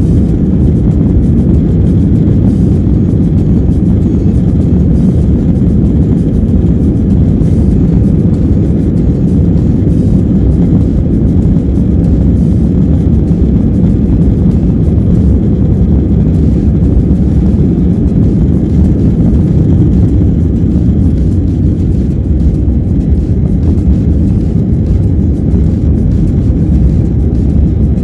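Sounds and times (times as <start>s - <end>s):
jet cabin roar: 0.0s - 28.0s.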